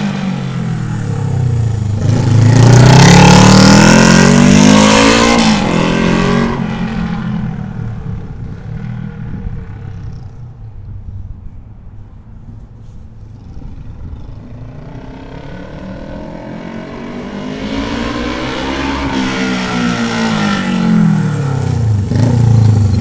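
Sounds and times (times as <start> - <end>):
motorcycle engine revving: 0.0 - 10.4, 13.6 - 23.0.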